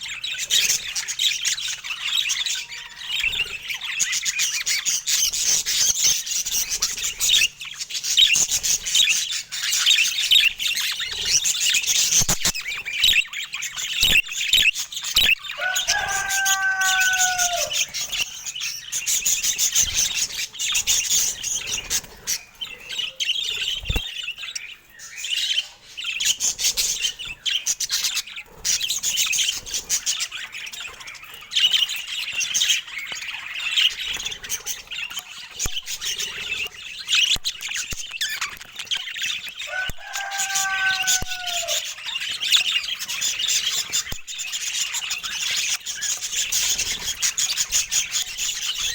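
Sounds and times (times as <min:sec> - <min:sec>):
budgerigars chattering: 0:00.0 - 0:48.9.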